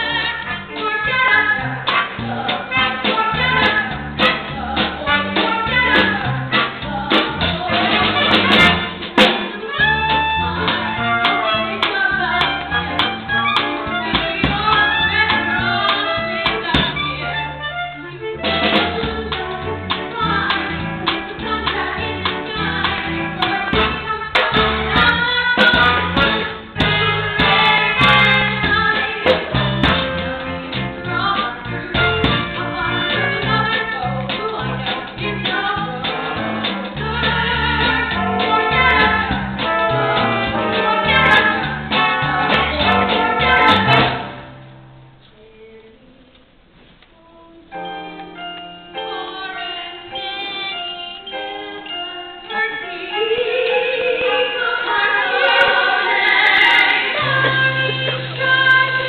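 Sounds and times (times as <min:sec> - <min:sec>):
music with singing: 0:00.0 - 0:44.4, 0:45.2 - 0:59.0
light music of separate notes: 0:00.0 - 0:59.0.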